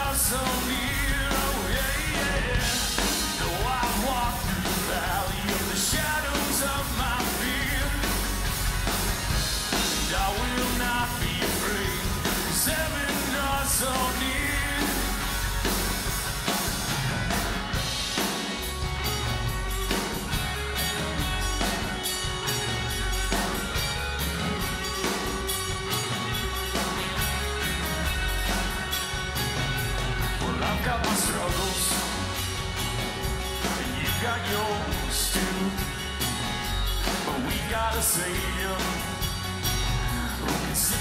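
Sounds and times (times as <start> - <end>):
drum kit steady beat: 0.0 - 41.0
electric bass: 0.0 - 41.0
electric guitar lines: 0.0 - 41.0
strummed acoustic guitar: 0.0 - 41.0.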